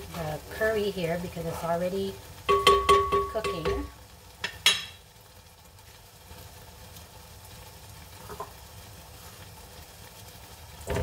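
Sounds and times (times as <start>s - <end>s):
sauce sizzling: 0.0s - 11.0s.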